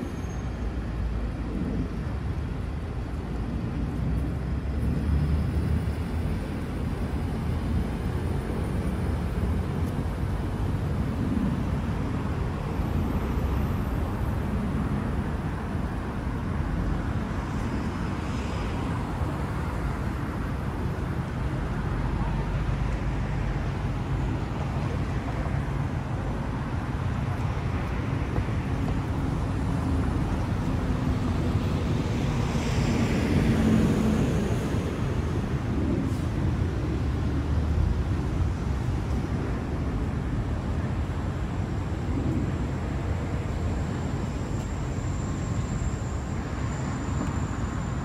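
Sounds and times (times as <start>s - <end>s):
cars passing on road: 0.0s - 48.0s.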